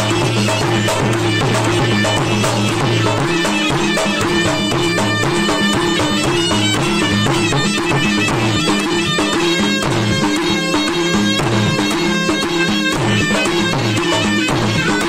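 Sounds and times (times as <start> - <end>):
hand drums fast rhythm: 0.0 - 15.0
reedy oboe melody: 0.0 - 15.0.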